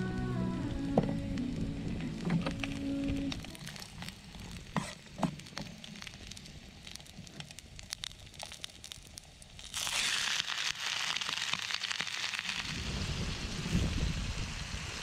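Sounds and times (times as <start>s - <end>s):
loud sizzle of chicken: 0.0s - 15.0s
garlic frying in oil: 2.6s - 15.0s.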